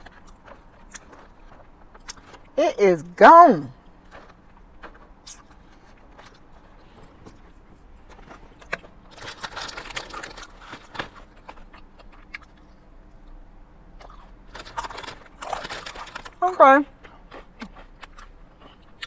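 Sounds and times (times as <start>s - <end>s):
person chewing salad: 0.0s - 2.6s, 3.8s - 19.0s.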